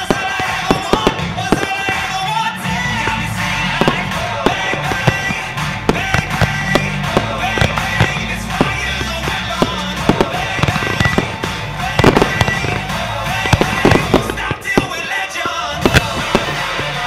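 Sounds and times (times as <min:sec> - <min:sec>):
fireworks bangs and pops: 0:00.0 - 0:17.0
music: 0:00.0 - 0:17.0.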